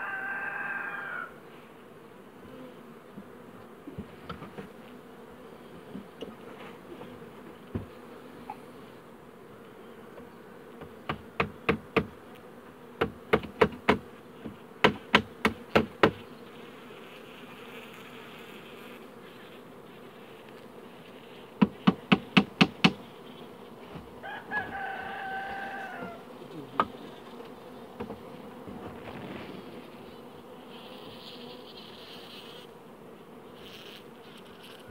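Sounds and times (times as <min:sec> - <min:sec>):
bees humming: 0:00.0 - 0:34.9.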